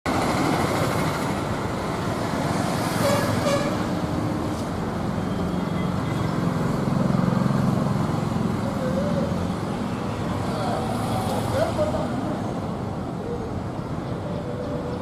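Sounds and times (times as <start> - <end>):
road traffic noise: 0.1 - 15.0.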